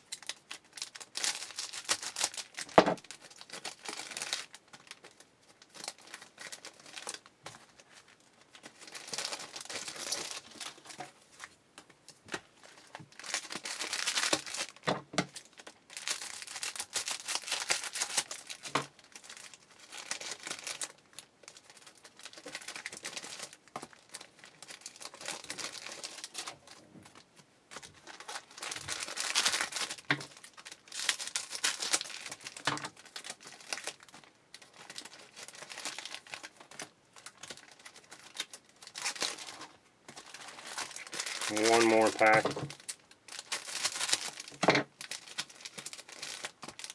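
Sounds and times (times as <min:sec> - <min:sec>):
wrappers crinkling and tearing: 0:00.0 - 0:46.9.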